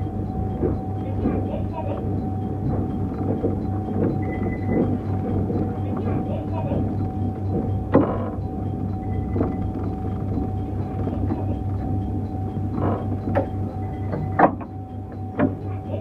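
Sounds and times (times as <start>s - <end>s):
low pulsing hum: 0.0s - 16.0s
steady electrical whine: 0.0s - 16.0s.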